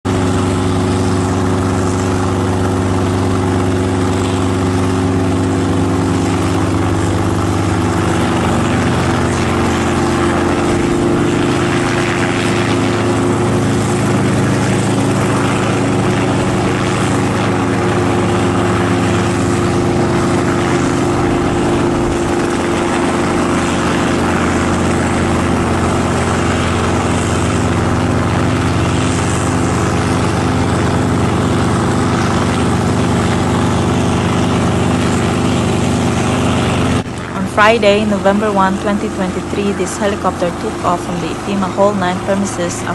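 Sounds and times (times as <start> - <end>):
helicopter engine and rotor: 0.0 - 42.9.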